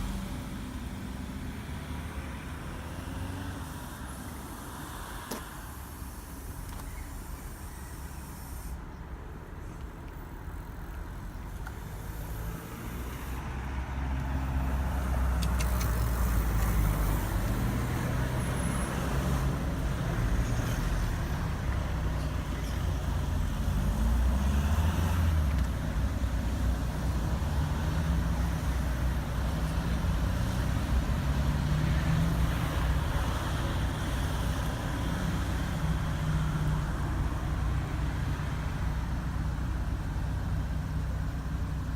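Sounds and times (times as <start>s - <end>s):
vehicle engine low rumble: 0.0s - 41.9s.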